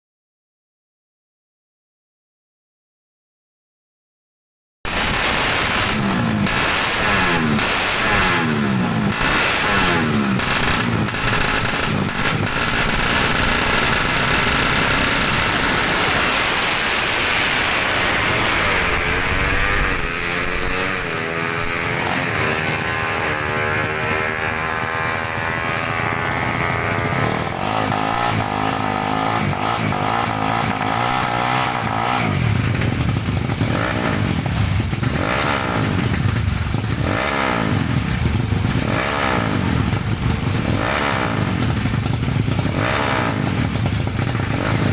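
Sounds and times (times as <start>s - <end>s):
motorcycles sweeping past: 4.9s - 41.9s
racing motorcycles revving: 4.9s - 44.9s.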